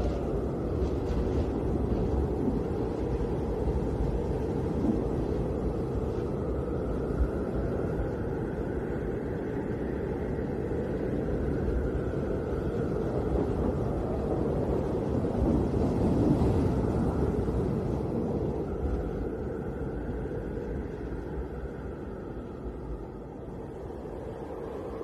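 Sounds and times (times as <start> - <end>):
low deep wind rush: 0.0 - 25.0.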